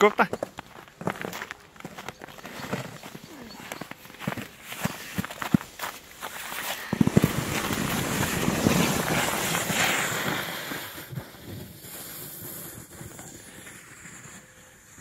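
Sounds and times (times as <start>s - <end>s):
footsteps crunching in snow: 0.0s - 14.5s
sled scraping over snow: 0.3s - 15.0s.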